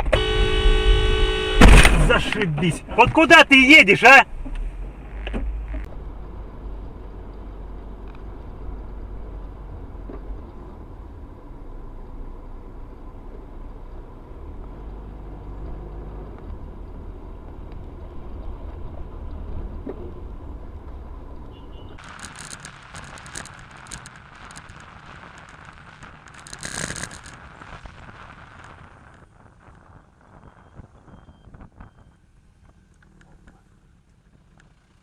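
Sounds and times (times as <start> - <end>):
car engine rumble: 0.0 - 35.0
road noise: 0.0 - 35.0.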